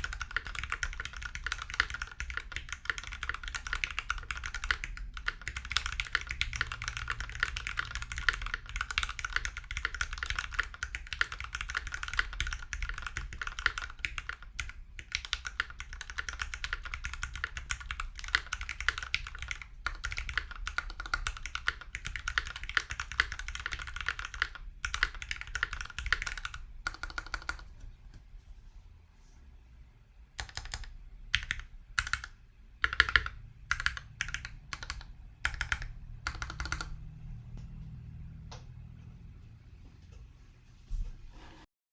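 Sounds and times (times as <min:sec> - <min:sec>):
fast mechanical keyboard typing: 0:00.0 - 0:27.8, 0:30.4 - 0:37.0.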